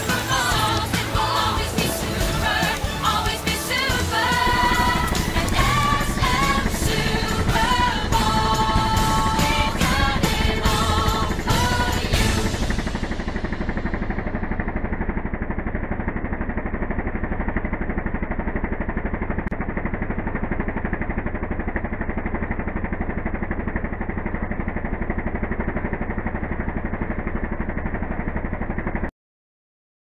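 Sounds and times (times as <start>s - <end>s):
vehicle engine running: 0.0s - 29.1s.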